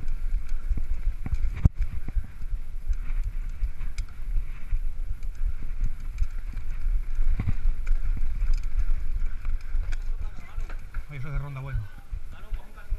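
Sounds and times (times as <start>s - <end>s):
bike rattling over bumps: 0.0s - 12.9s
wind buffeting microphone: 0.0s - 12.9s.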